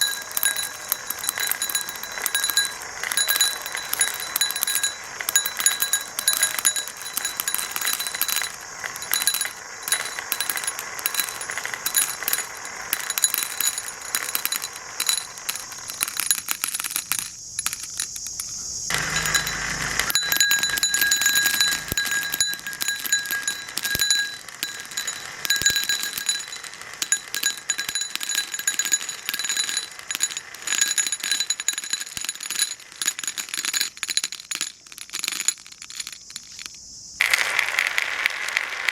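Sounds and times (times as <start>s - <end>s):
faint ringing: 0.0s - 38.3s
marbles clattering down a track: 0.0s - 38.9s.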